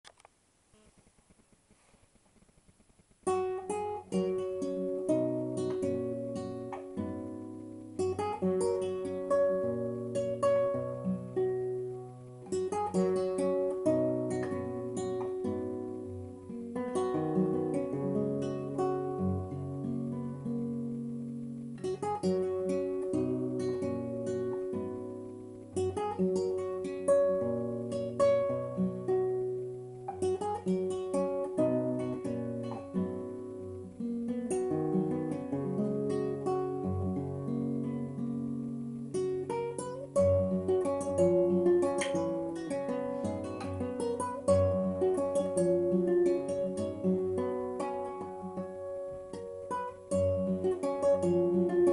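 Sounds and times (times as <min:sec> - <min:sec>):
acoustic guitar ballad: 0:00.1 - 0:51.9.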